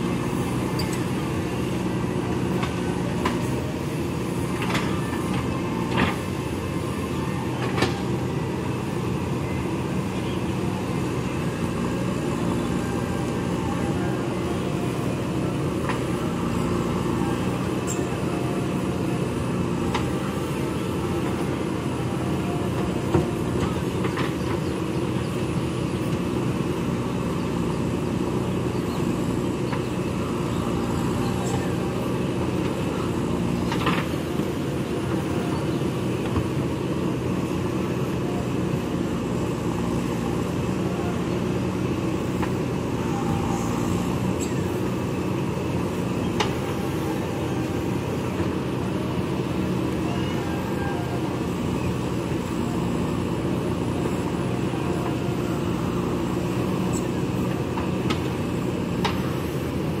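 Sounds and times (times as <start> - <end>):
backhoe digging mud: 0.0 - 60.0
diesel engine running under load: 0.0 - 60.0.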